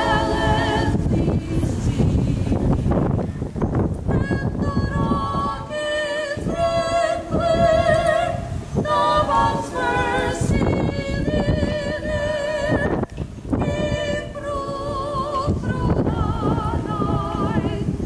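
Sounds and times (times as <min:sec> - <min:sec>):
women singing a cappella: 0:00.0 - 0:02.9, 0:04.1 - 0:18.0.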